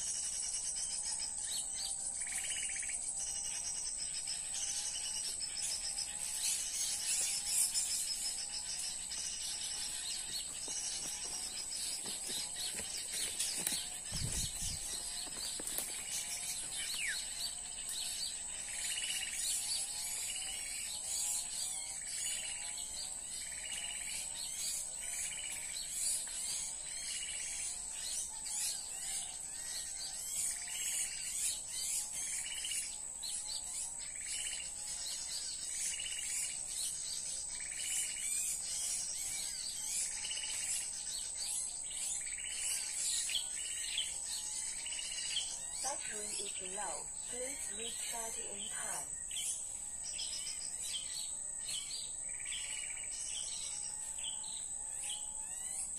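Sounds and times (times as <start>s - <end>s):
recorded small-bird calls: 0.0s - 55.9s.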